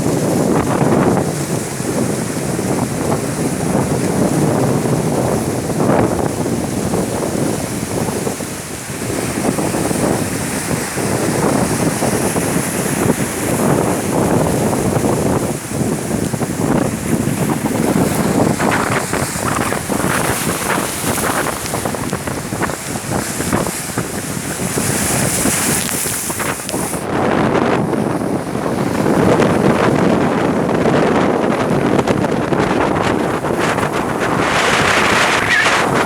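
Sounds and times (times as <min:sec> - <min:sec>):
strong wind gusting: 0:00.0 - 0:36.0.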